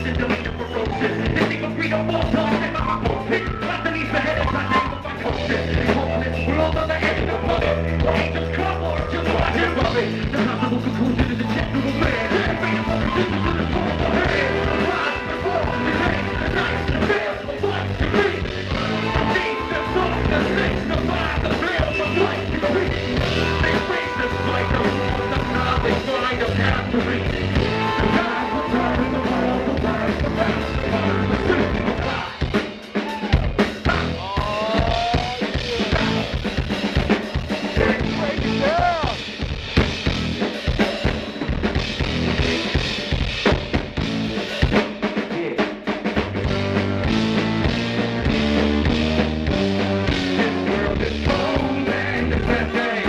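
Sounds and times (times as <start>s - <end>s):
live band instrumental: 0.0s - 53.0s.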